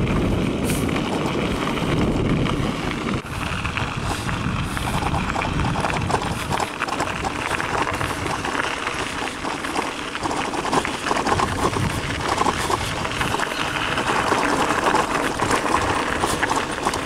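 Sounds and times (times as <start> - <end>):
bicycle tyres rolling over gravel: 0.0 - 17.0.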